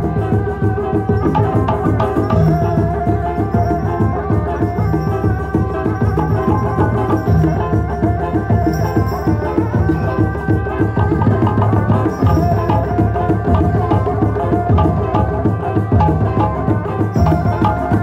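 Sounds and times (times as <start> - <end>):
fast hand-drumming: 0.0 - 18.0
sustained melody: 0.0 - 18.0.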